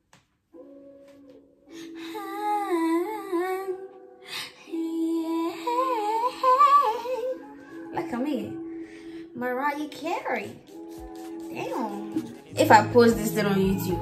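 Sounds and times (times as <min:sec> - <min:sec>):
background music low chord: 0:00.5 - 0:14.0.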